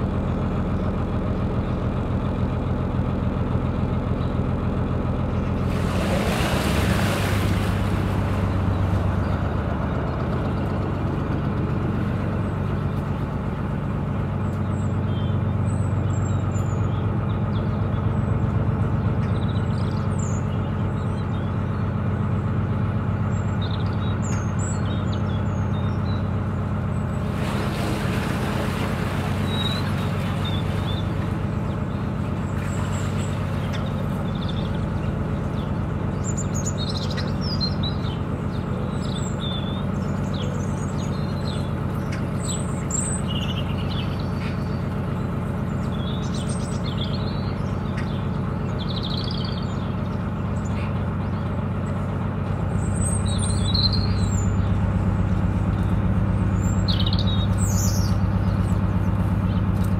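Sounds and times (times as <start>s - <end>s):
boat engine running: 0.0s - 59.9s
birds chirping: 3.9s - 59.9s.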